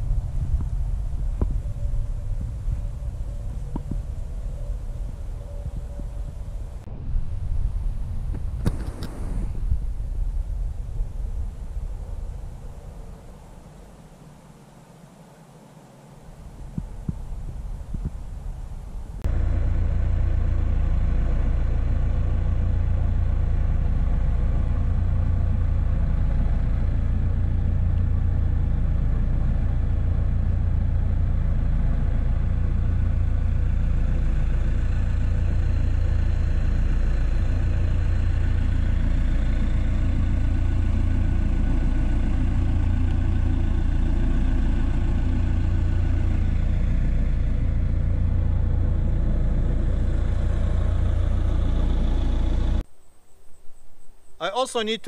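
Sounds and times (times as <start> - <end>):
diesel engine idling: 0.0 - 8.6, 16.3 - 52.8.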